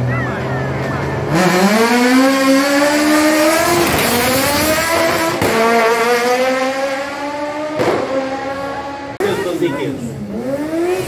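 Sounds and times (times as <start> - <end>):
racing car engine accelerating: 0.0 - 11.0.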